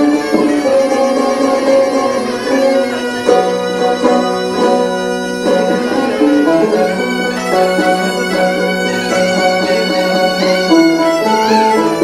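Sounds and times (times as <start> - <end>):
plucked lute: 0.0 - 12.0
violin playing folk tune: 0.0 - 12.0.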